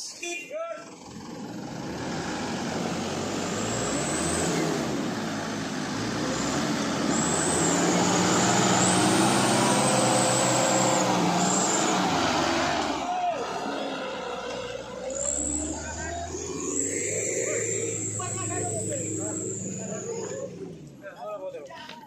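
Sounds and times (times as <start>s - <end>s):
diesel truck engine under heavy load: 0.8s - 21.2s.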